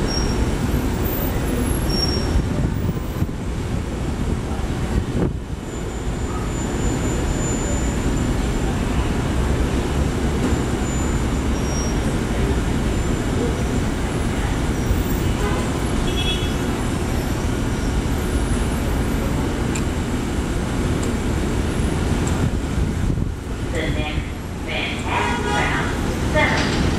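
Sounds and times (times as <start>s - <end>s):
street traffic: 0.0s - 26.9s
train rumbling on steel structure: 0.0s - 26.9s.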